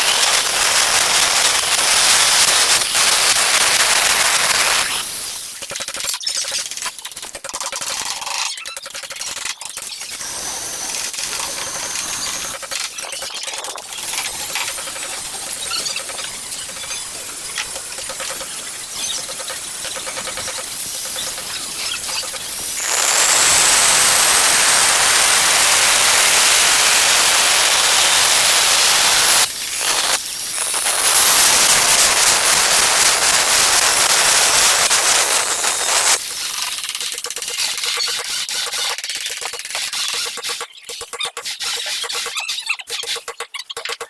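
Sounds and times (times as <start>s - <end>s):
angle grinder cutting tile: 0.0s - 5.7s, 9.9s - 43.2s.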